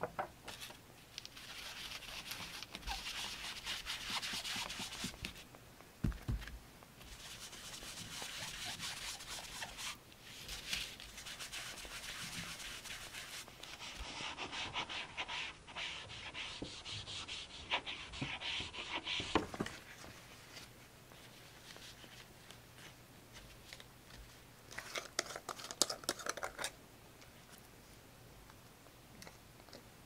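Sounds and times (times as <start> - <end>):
rubbing and scratching on paper: 0.5 - 5.5, 7.0 - 26.4.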